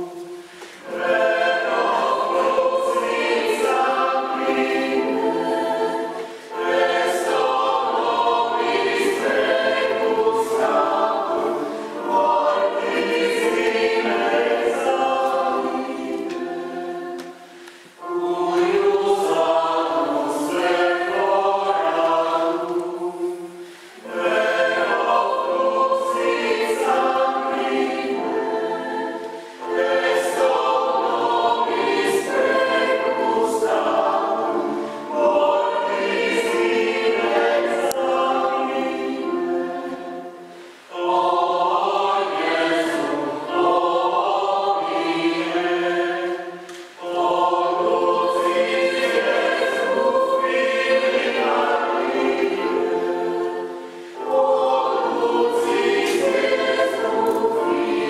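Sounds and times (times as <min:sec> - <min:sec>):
mixed choir singing unaccompanied: 0:00.0 - 0:58.0.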